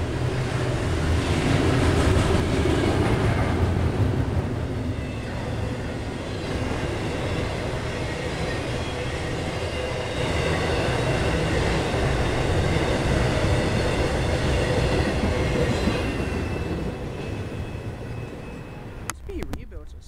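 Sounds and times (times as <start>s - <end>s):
freight train wheels rumbling: 0.0s - 19.8s.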